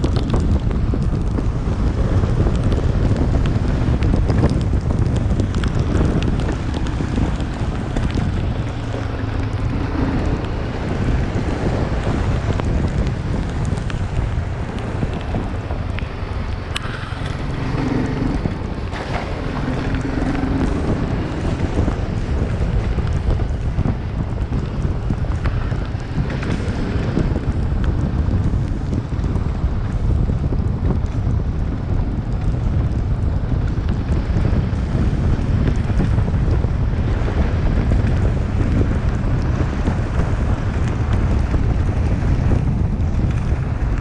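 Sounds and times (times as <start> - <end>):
wind noise on microphone: 0.0 - 44.0.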